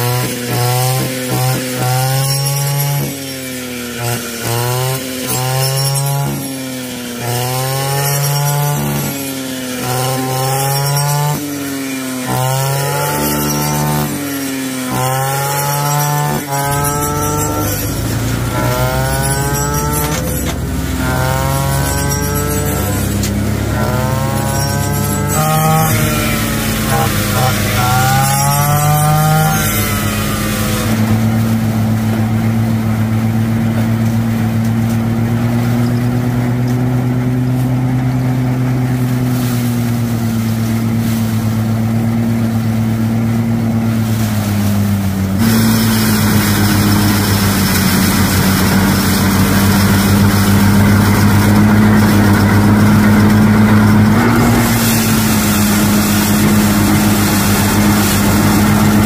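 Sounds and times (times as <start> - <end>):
brush cutter revving: 0.0 - 59.0
small petrol engine running: 0.0 - 59.0.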